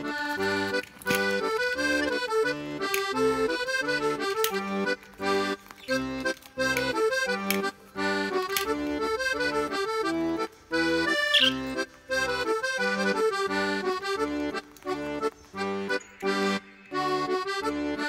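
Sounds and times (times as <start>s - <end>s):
upbeat instrumental tune: 0.0s - 18.0s.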